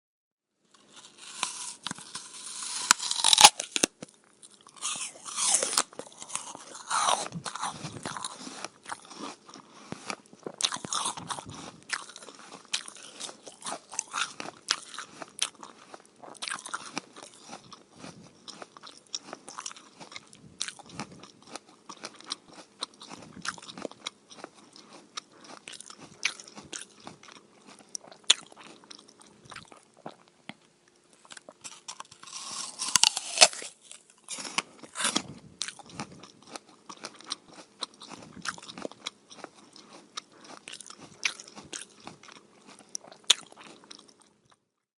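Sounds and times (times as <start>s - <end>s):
person chewing crisp apple: 0.7s - 44.6s.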